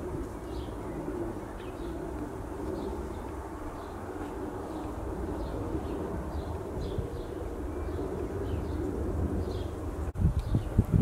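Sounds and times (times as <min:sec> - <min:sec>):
steady low rumble: 0:00.0 - 0:11.0
small birds chirping: 0:00.1 - 0:11.0.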